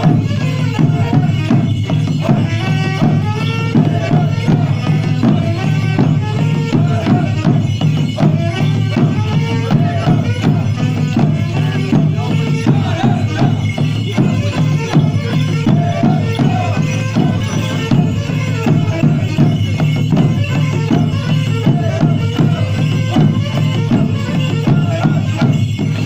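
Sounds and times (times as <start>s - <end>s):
folk melody: 0.0s - 26.0s
frame drums beating: 0.0s - 26.0s.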